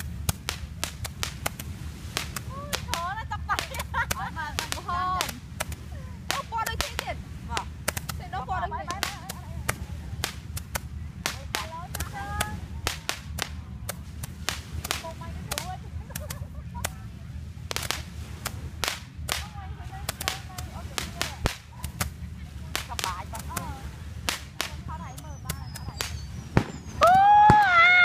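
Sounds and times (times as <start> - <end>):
fireworks cracking and popping: 0.0 - 28.0
low rumble: 0.0 - 28.0.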